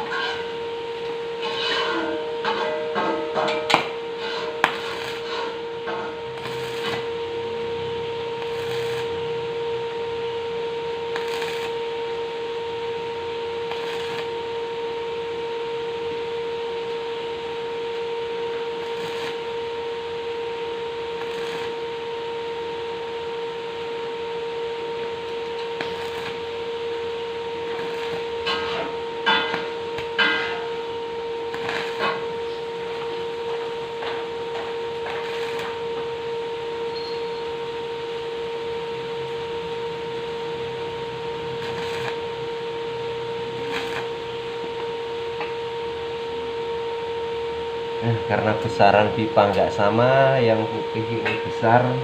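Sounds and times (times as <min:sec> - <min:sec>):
welding machine humming: 0:00.0 - 0:52.0.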